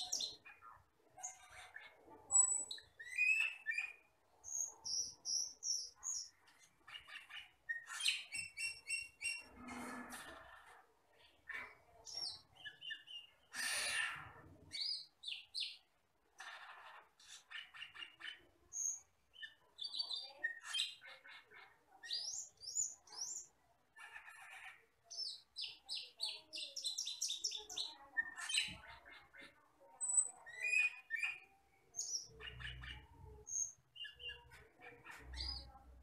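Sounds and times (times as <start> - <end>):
birdsong chirps and whistles: 0.0 - 10.8, 11.5 - 29.0, 30.0 - 36.0
harsh rasping bird calls: 0.0 - 15.8, 16.4 - 36.0.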